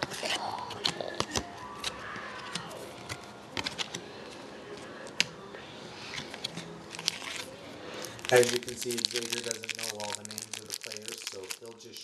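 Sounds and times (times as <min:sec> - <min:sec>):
cards and wrappers rustling: 0:00.0 - 0:05.3, 0:06.0 - 0:12.0.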